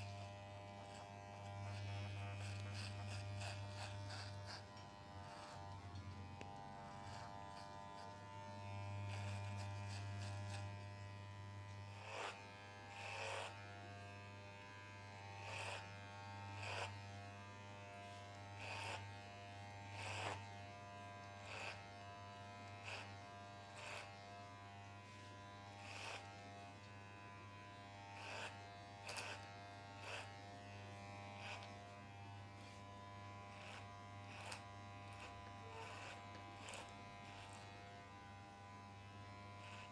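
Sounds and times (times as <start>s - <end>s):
clippers rasping over hair: 0.0s - 39.9s
electric clippers buzzing: 0.0s - 39.9s.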